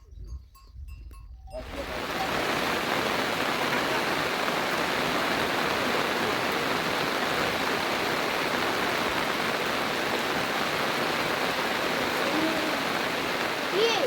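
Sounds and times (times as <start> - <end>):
rushing water: 1.6 - 14.0.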